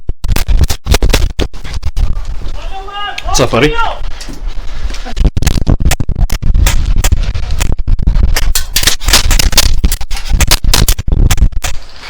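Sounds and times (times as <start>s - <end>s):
scratchy crackles and scrapes: 0.0s - 12.0s
wind buffeting microphone: 1.5s - 12.0s.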